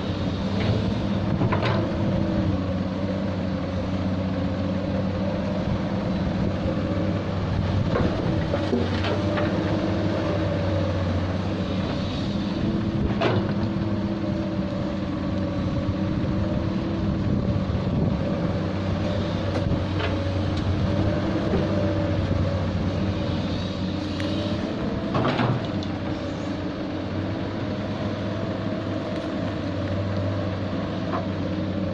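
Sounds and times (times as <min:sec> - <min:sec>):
excavator diesel engine: 0:00.0 - 0:31.9.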